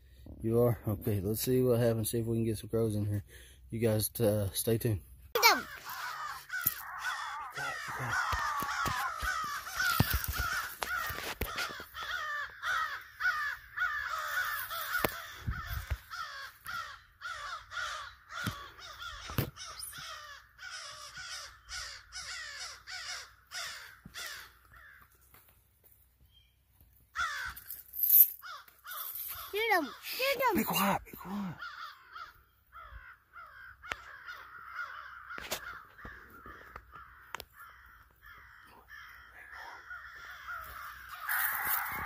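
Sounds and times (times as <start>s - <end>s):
crows cawing: 5.4s - 25.4s, 27.1s - 42.0s.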